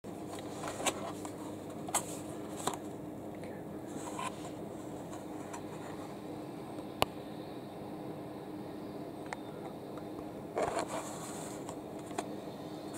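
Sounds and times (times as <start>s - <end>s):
faint steady hum: 0.1s - 12.9s.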